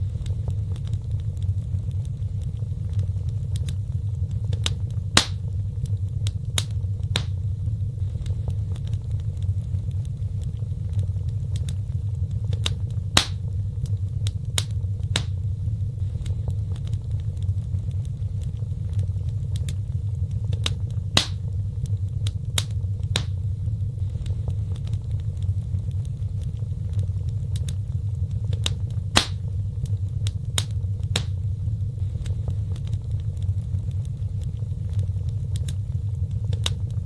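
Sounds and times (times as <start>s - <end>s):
fireplace fire crackling: 0.0s - 37.0s
sharp pops of fire: 0.1s - 37.0s.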